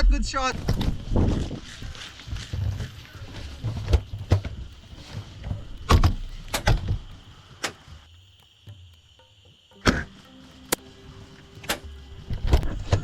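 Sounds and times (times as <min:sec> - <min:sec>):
high-pitched insect drone: 0:00.2 - 0:13.0.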